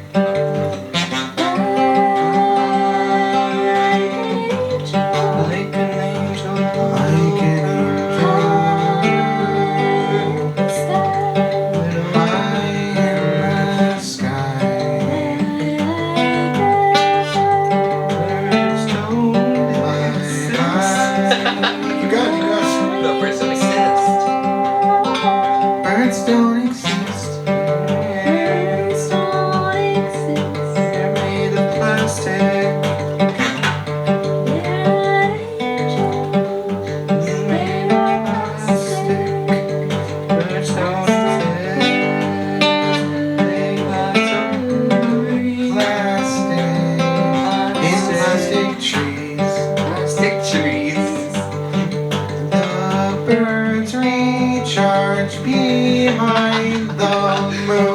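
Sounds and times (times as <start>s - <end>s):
guitar playing: 0.0s - 57.9s
live band jamming: 0.0s - 57.9s.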